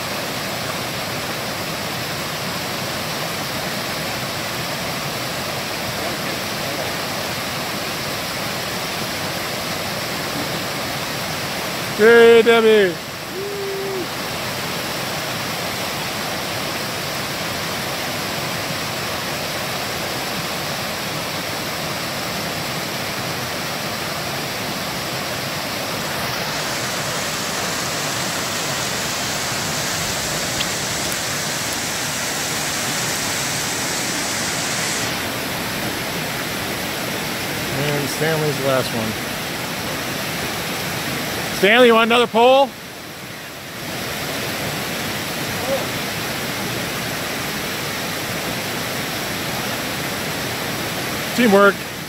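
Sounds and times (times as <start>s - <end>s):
creek rushing over rocks: 0.0s - 52.0s.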